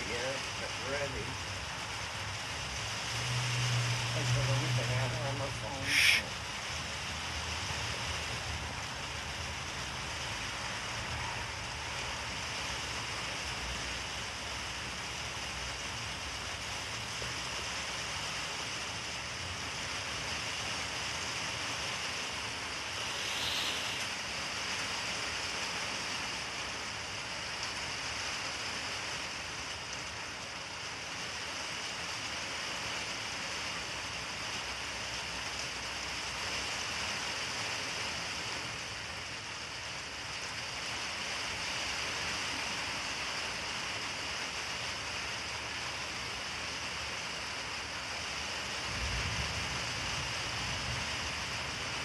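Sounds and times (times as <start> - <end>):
outdoor hiss: 0.0 - 52.0.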